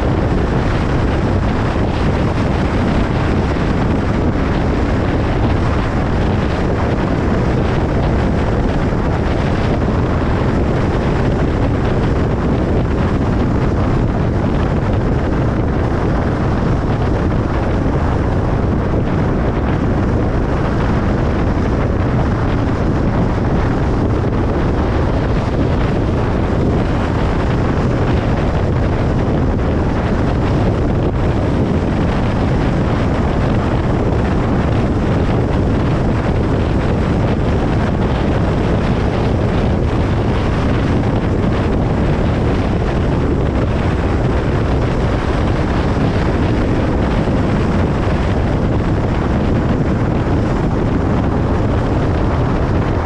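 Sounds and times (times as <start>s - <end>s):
car road and tyre noise: 0.0s - 53.0s.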